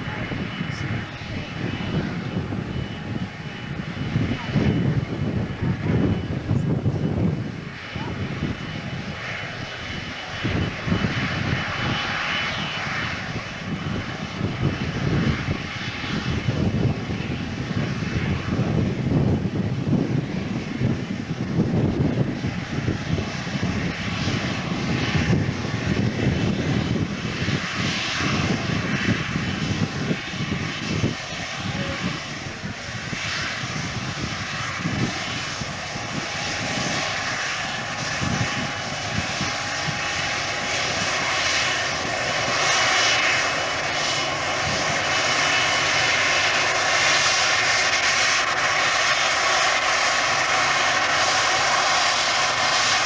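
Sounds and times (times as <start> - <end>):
gusty low rumble: 0.0 - 53.0
jet engines roaring: 0.0 - 53.0
steady engine whine: 0.0 - 53.0.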